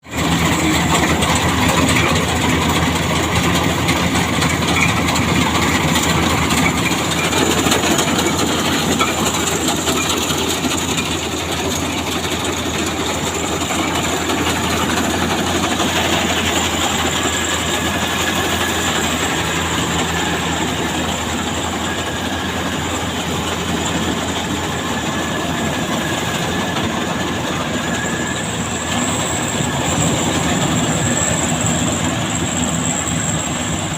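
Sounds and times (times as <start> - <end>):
heavy engine running: 0.0 - 33.9.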